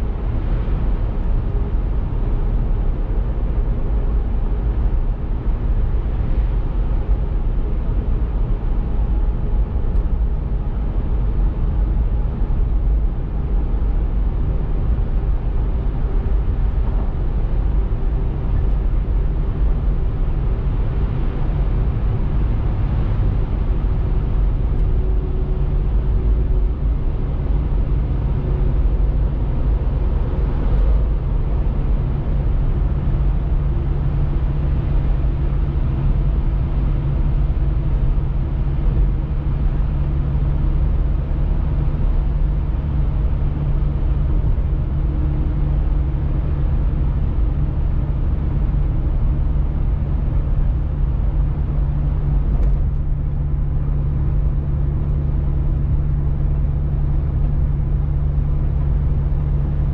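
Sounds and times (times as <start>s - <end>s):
constant low hum: 0.0s - 59.9s
road and engine rumble in car: 0.0s - 59.9s.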